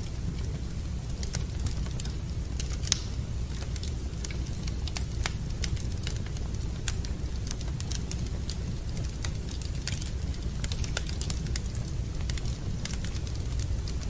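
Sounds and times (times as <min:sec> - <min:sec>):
wood fire crackling: 0:00.0 - 0:14.0
sharp pops from fire: 0:00.3 - 0:14.0.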